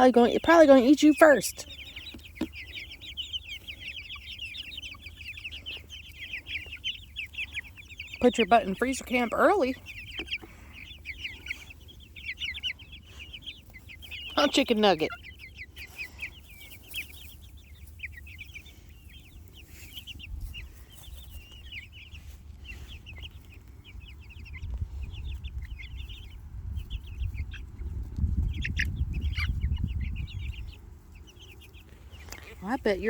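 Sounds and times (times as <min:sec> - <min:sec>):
chicks peeping and chirping: 0:00.0 - 0:33.0.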